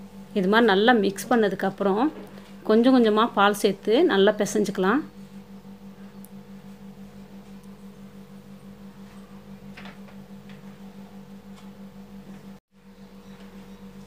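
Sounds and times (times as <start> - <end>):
pulsing low hum: 0.0 - 14.0.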